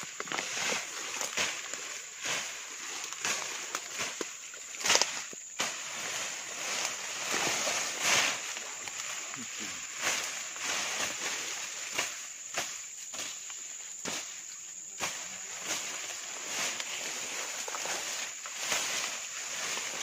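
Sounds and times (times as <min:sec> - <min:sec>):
ferns and grass rustling: 0:00.0 - 0:20.0
footsteps: 0:00.0 - 0:20.0
high insect buzz: 0:00.0 - 0:20.0.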